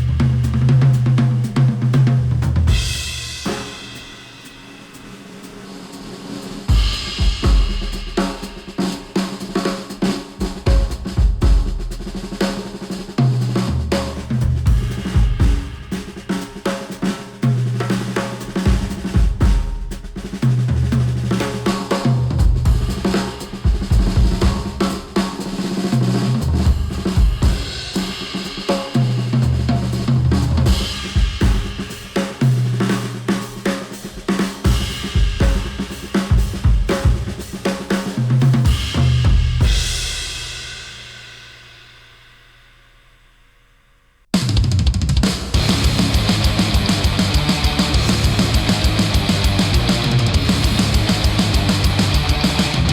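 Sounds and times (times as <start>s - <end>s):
instrumental music with drums and bass: 0.0s - 43.3s, 44.3s - 52.9s.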